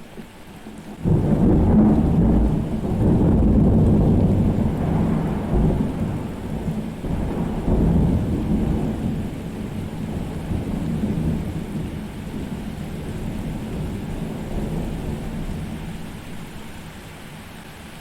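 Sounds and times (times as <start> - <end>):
heavy rain: 0.0 - 18.0
thunder rumbling: 0.9 - 17.0.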